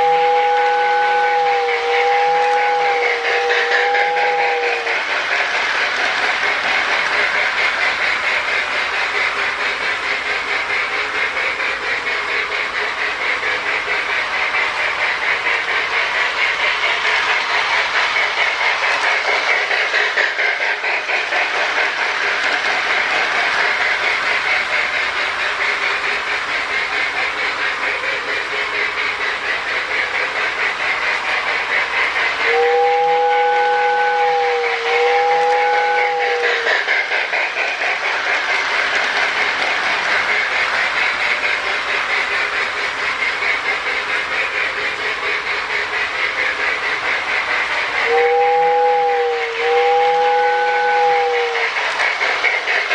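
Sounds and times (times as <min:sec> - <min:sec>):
toy steam locomotive chuffing: 0:00.0 - 0:52.9.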